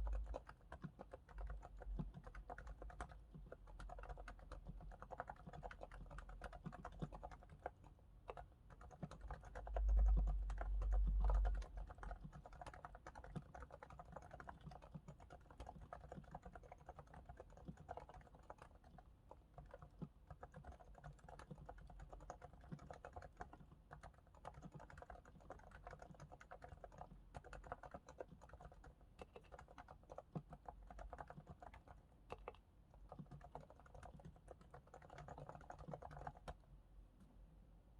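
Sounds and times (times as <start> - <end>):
soft muted keyboard typing: 0.0 - 37.4.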